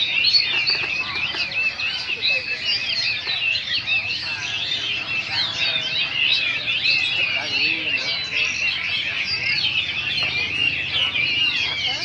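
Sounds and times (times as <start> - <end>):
songbirds chirping and twittering: 0.0 - 12.0.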